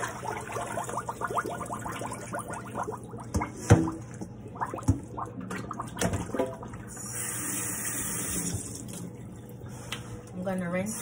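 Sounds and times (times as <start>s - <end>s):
water pouring into a sink: 0.0s - 9.7s.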